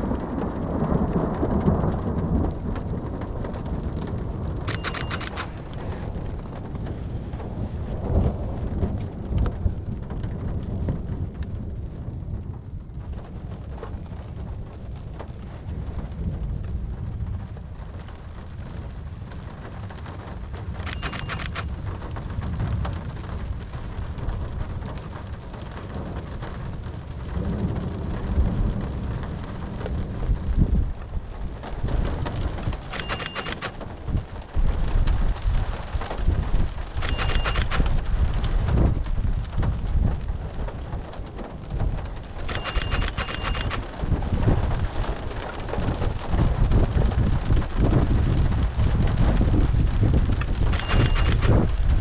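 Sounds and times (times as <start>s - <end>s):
steady rain: 0.0s - 52.0s
thunder rumbling: 0.0s - 52.0s.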